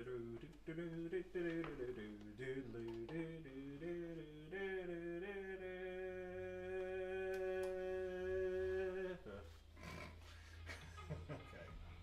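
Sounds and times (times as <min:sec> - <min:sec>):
man humming a tune: 0:00.0 - 0:11.7.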